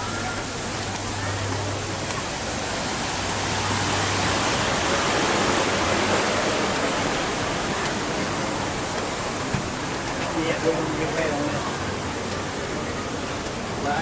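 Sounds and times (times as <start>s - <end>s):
falling water rushing: 0.0s - 14.0s.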